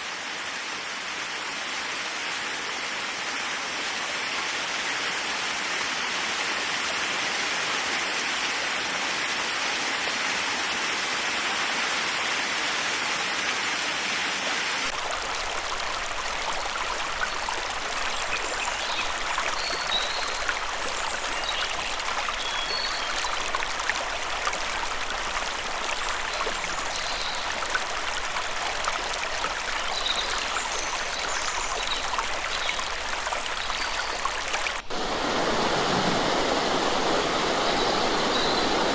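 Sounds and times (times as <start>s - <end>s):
running water from a cascade: 0.0s - 38.9s.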